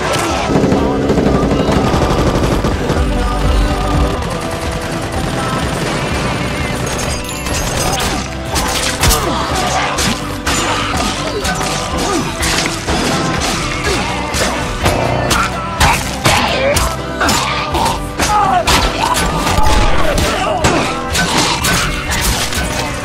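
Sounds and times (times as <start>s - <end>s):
gunshots: 0.0s - 16.6s, 18.7s - 23.0s
background music: 0.0s - 23.0s.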